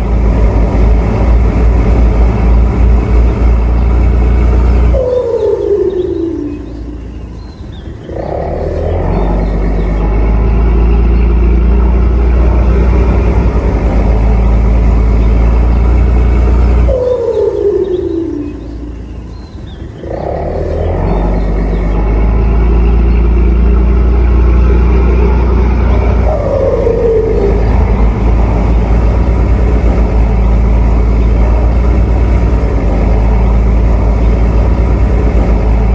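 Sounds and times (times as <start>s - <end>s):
tone sliding downward in pitch: 0.0s - 7.3s, 8.1s - 19.2s, 20.0s - 35.9s
diesel engine humming: 0.0s - 35.9s
falling whine: 0.0s - 35.9s.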